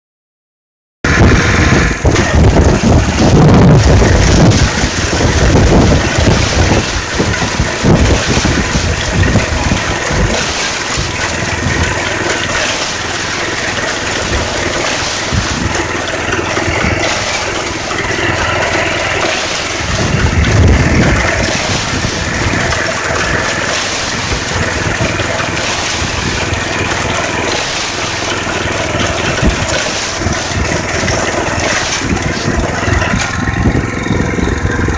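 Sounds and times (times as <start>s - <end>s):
wind noise on microphone: 1.1s - 12.8s, 13.8s - 34.9s
mechanical clatter: 1.1s - 34.9s
small engine running under load: 1.1s - 34.9s.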